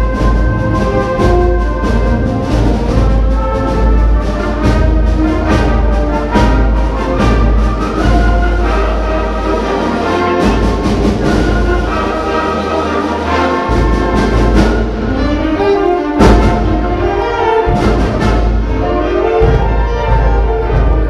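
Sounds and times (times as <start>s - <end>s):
concert band playing: 0.0s - 21.0s.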